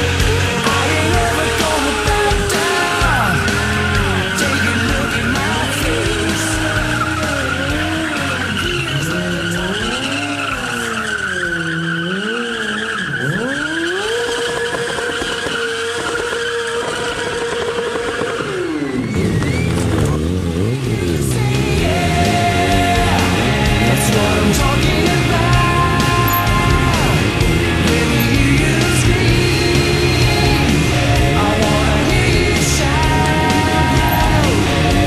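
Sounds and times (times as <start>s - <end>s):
motorcycle engine revving: 0.0s - 35.0s
tyre squealing: 0.0s - 35.0s.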